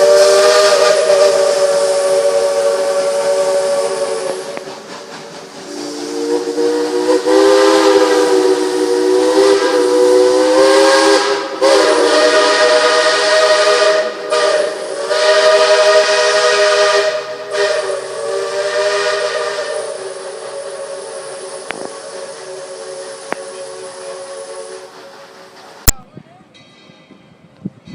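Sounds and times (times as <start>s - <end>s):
steam locomotive chime whistle: 0.0s - 4.7s, 5.6s - 25.0s
steam hiss: 0.0s - 26.0s.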